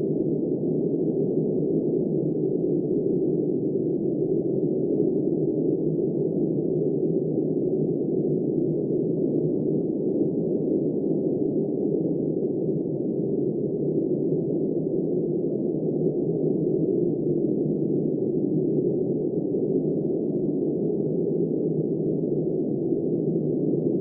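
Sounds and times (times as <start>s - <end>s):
muffled low blizzard wind: 0.0s - 24.0s.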